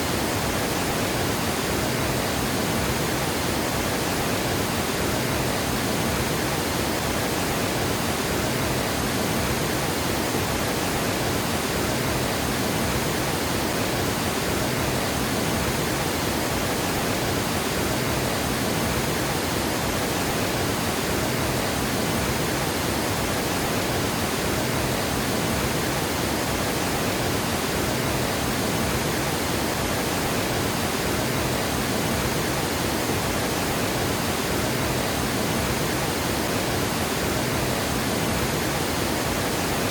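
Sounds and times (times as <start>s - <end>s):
water gushing over a dam: 0.0s - 39.9s.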